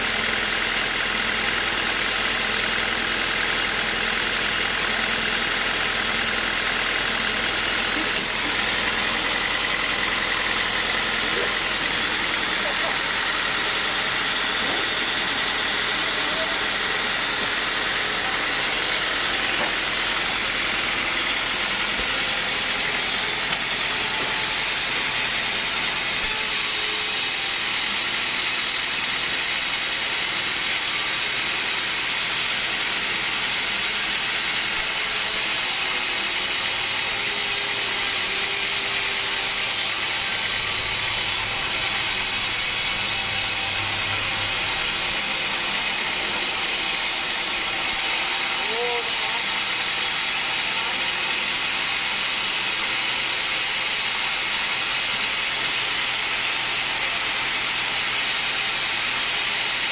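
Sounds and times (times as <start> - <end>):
band saw blade sawing log: 0.0 - 59.9.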